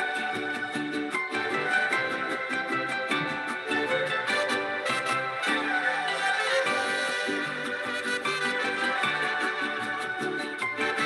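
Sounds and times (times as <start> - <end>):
mariachi music: 0.0 - 11.0
strummed string instruments: 0.0 - 11.0.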